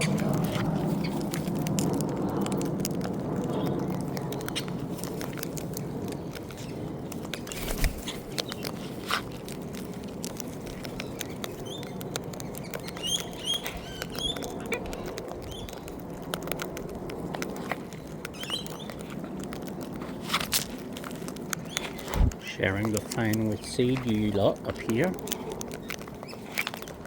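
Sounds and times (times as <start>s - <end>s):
birds pecking seed: 0.0s - 27.0s.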